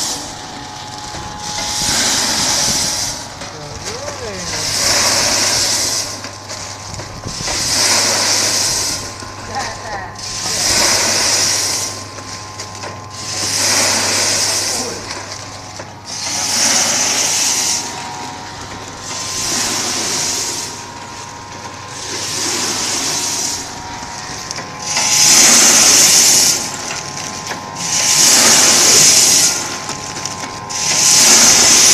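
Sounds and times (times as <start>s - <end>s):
packing machine hissing rush: 0.0s - 31.9s
steady machine hum: 0.0s - 31.9s.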